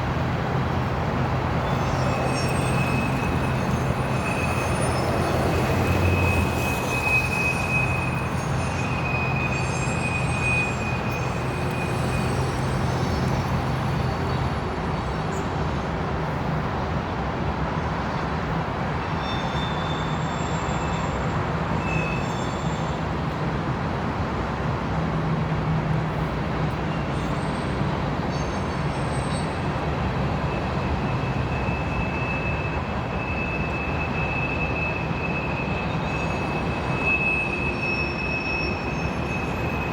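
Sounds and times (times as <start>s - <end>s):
freight train rumbling and rattling: 0.0s - 39.9s
train wheels squealing: 1.4s - 15.8s, 18.9s - 23.4s, 26.6s - 39.9s.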